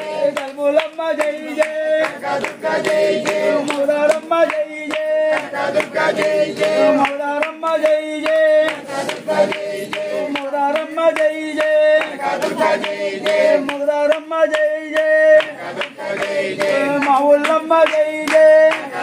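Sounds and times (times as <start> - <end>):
group singing: 0.0 - 19.0
steady clapping: 0.0 - 19.0.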